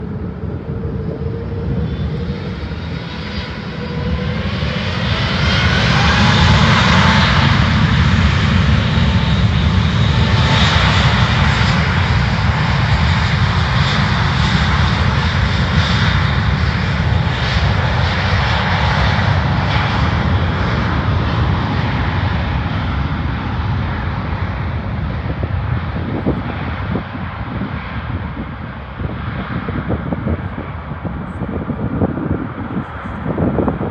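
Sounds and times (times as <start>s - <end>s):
jet engines roaring at takeoff: 0.0s - 33.9s.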